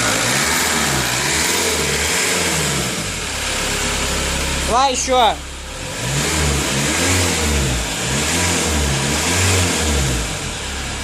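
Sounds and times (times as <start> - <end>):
diesel engine revving and idling: 0.0 - 11.0.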